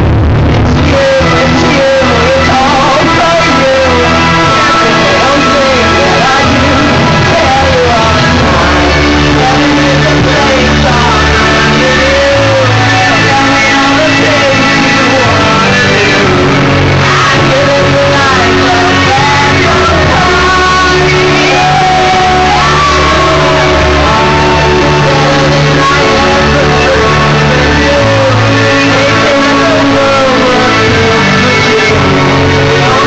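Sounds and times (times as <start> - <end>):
rock song with belted vocal: 0.0 - 33.0.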